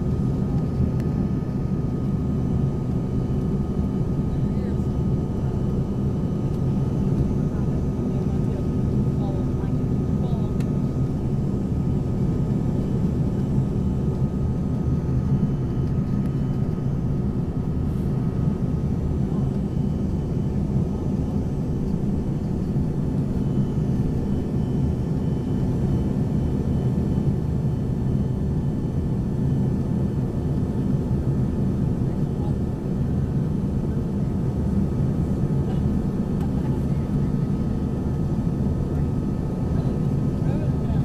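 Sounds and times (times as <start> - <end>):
faint steady whine: 0.0 - 41.0
jet cabin engine rumble: 0.0 - 41.0.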